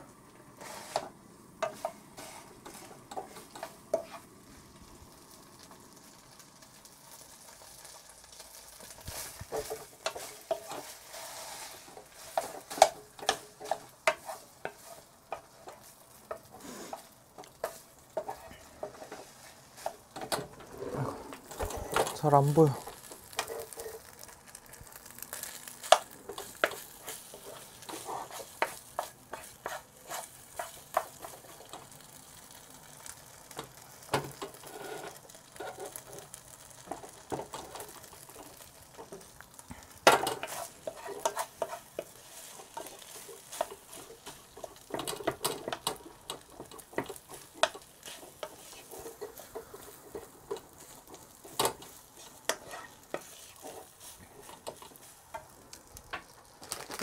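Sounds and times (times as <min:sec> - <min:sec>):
faint sizzle: 0:00.0 - 0:57.0
spatula scraping frying pan: 0:00.6 - 0:04.3, 0:08.5 - 0:24.2, 0:25.0 - 0:39.4, 0:40.0 - 0:55.6.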